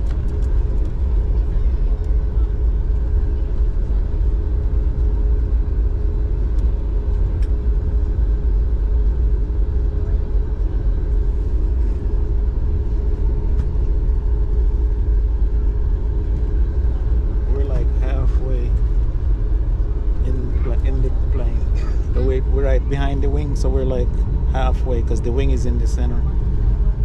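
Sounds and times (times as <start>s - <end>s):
airliner cabin rumble: 0.0s - 27.0s
steady hum: 0.0s - 27.0s.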